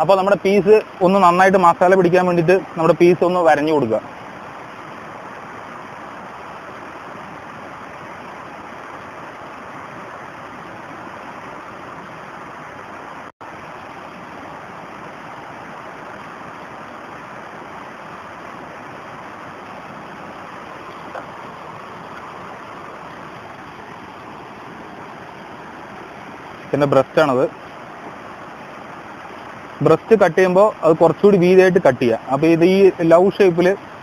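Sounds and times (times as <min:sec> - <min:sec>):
water rushing over stones: 0:00.0 - 0:34.0.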